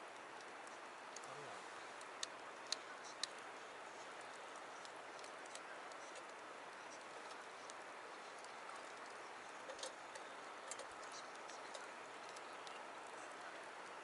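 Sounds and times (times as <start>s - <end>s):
campfire crackling: 0.0s - 14.0s
steady background hiss: 0.0s - 14.0s.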